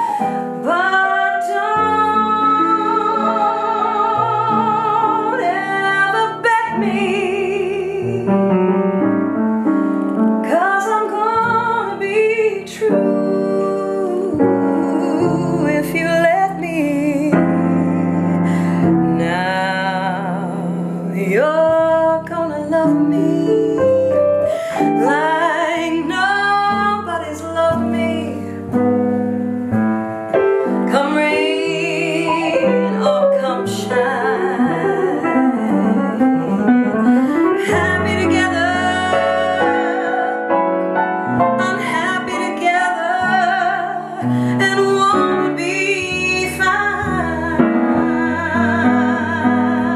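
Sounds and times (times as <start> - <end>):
jazz ballad piano: 0.0 - 49.9.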